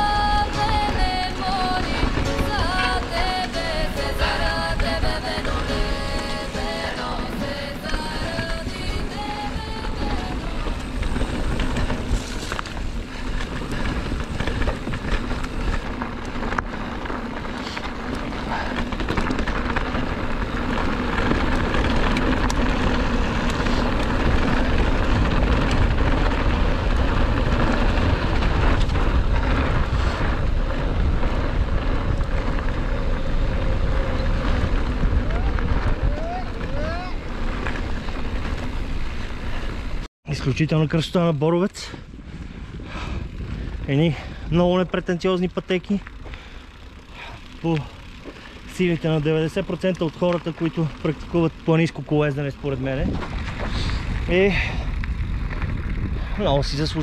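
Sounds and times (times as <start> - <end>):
bike rattling: 0.0 - 57.0
bike tyre rumble: 0.0 - 57.0
wind buffeting microphone: 0.0 - 57.0.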